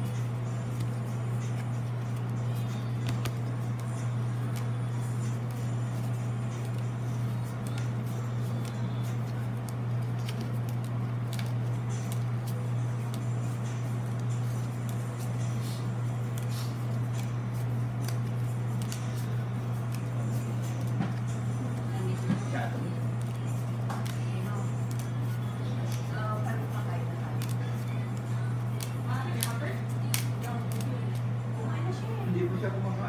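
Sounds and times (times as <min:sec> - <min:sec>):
trading cards clicking and rustling: 0:00.0 - 0:31.4
steady low hum: 0:00.0 - 0:33.0.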